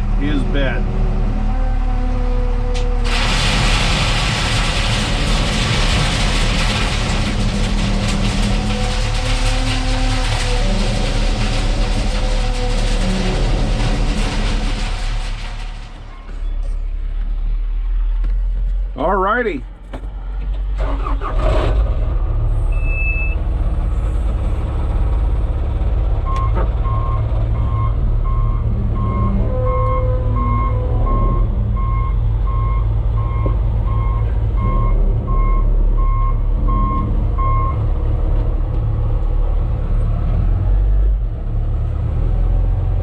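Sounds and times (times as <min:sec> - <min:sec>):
diesel engine low rumble: 0:00.0 - 0:43.0.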